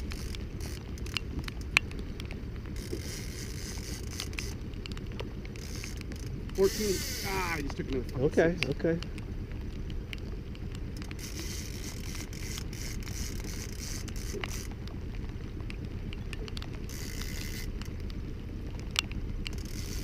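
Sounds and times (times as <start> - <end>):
boat motor rumble: 0.0 - 20.0
handling clicks and rustles: 0.0 - 20.0.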